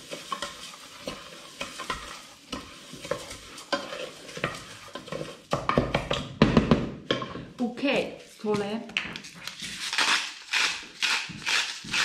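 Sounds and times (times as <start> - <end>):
rice sizzling in a pot: 0.0 - 7.4, 9.6 - 12.0
wooden spoon scraping a pot: 0.0 - 12.0.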